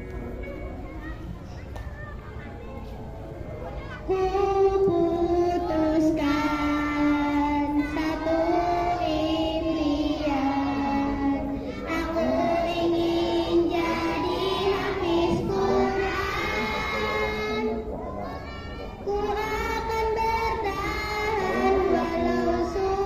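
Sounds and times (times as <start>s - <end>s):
children singing: 3.7s - 23.0s.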